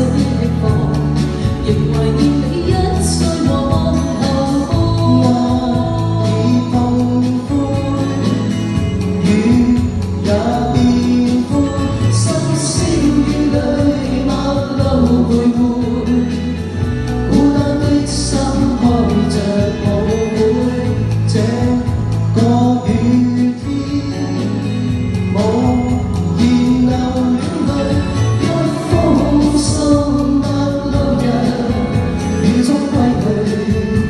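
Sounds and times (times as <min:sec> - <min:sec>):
backing music: 0:00.0 - 0:34.0
man and woman singing duet: 0:00.0 - 0:34.0.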